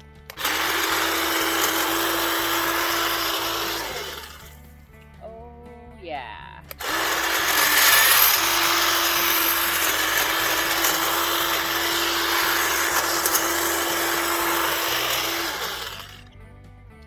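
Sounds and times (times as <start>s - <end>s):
hedge trimmer running: 0.0s - 4.7s, 6.7s - 16.3s
blades cutting through brush: 0.3s - 4.7s, 6.7s - 16.2s.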